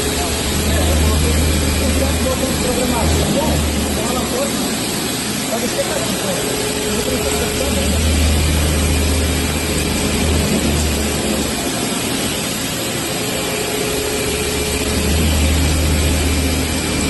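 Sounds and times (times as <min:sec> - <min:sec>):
low machine hum: 0:00.0 - 0:17.0
milling machine cutting steel: 0:00.0 - 0:17.0.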